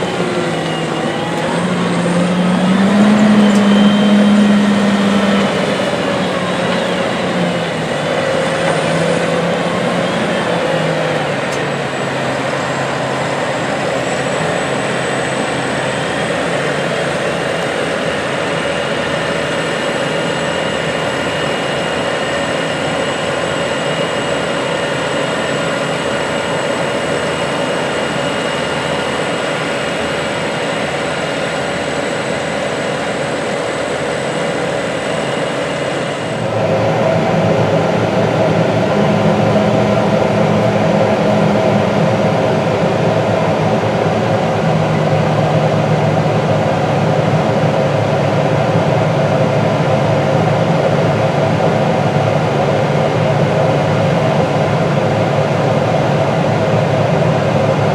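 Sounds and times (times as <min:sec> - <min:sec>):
heavy diesel machinery running: 0:00.0 - 0:57.9
thin high whine: 0:00.0 - 0:57.9.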